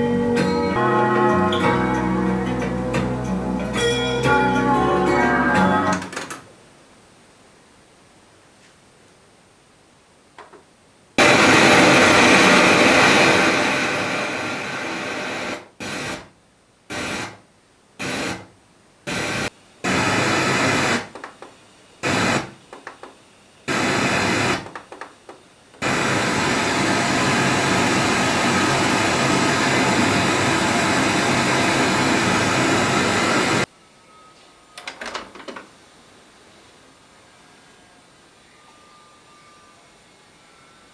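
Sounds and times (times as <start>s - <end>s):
loud speaker static hiss: 0.0s - 40.9s.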